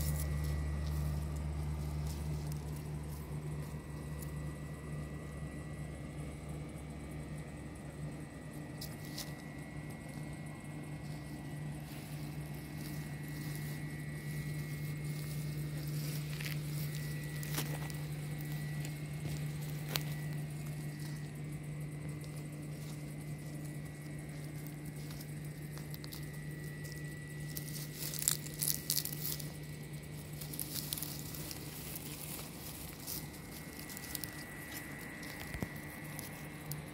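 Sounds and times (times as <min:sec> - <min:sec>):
rustling in dry grass: 0:00.0 - 0:05.6, 0:08.1 - 0:36.9
steady low hum: 0:00.0 - 0:36.9.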